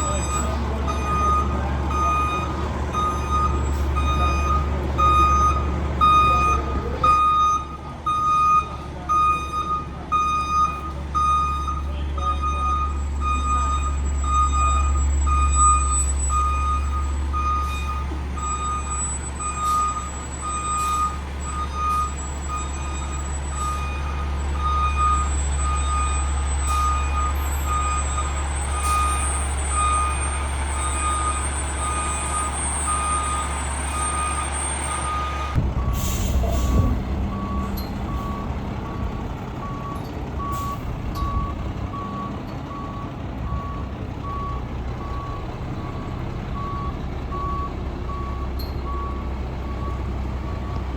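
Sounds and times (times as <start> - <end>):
lower pitched backup alarm: 0.0 - 50.8
diesel engine running: 0.0 - 50.9
reversing alarm beeping: 0.0 - 50.9.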